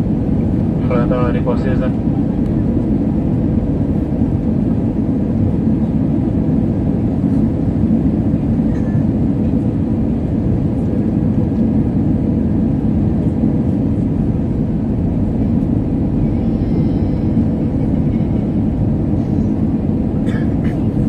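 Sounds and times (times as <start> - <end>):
jet engine and airflow rush: 0.0 - 21.0.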